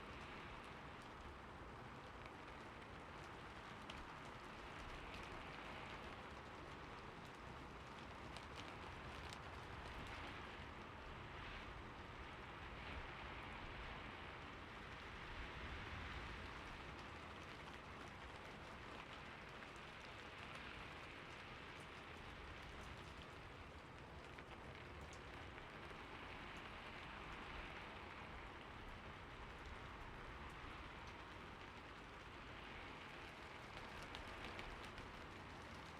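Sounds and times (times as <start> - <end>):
faint raindrop ticks: 0.0 - 35.9
soft rain falling: 0.0 - 35.9.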